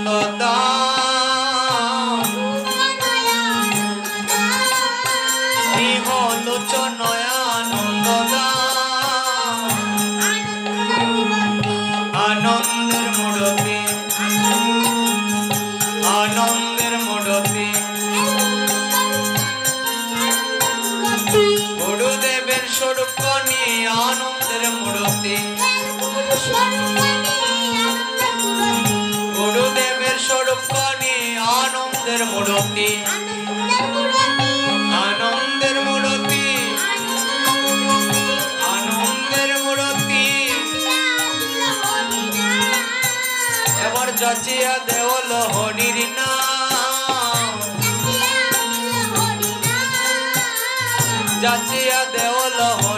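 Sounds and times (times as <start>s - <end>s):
boy singing devotional song: 0.0s - 52.9s
harmonium drone: 0.0s - 52.9s.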